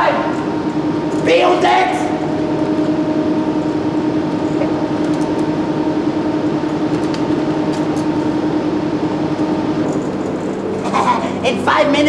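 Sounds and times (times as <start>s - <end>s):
industrial machinery hum: 0.0s - 12.0s.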